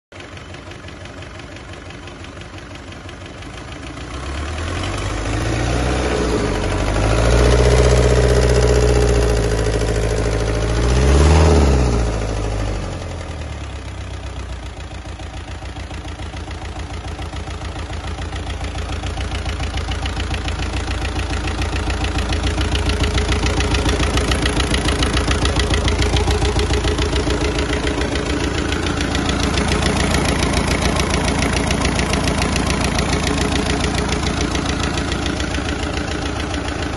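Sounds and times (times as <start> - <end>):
diesel engine idling and revving: 0.1 - 36.9.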